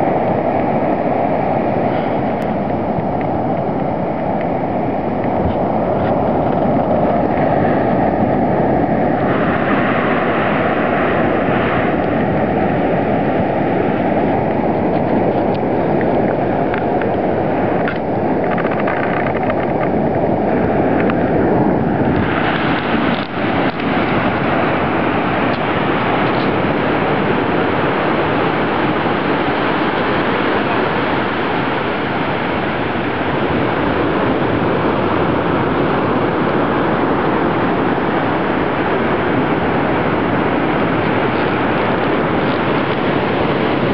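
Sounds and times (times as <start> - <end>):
ocean surf roaring: 0.0 - 43.9
wind noise on microphone: 0.0 - 43.9.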